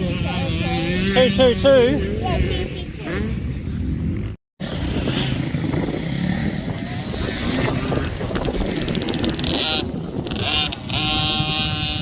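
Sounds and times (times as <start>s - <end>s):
dirt bike engine revving: 0.0s - 12.0s
wind noise on microphone: 0.0s - 12.0s.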